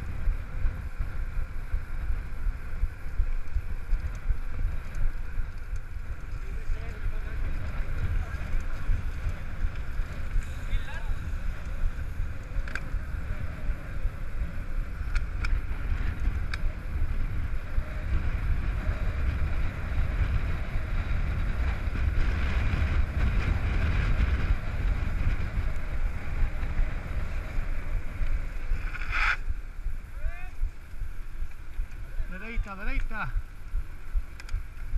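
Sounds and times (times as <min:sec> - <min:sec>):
bike tyres hissing on asphalt: 0:00.0 - 0:34.9
wind buffeting microphone: 0:00.0 - 0:34.9.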